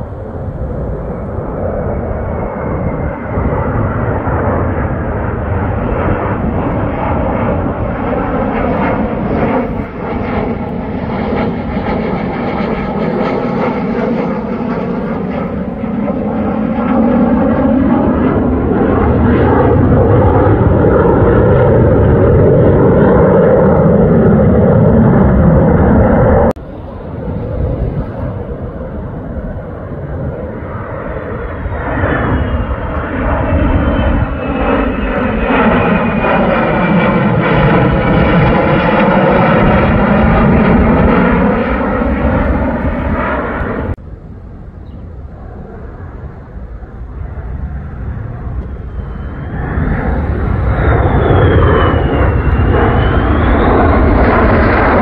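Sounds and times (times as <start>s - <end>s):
fighter jet engine roar: 0.0s - 55.0s.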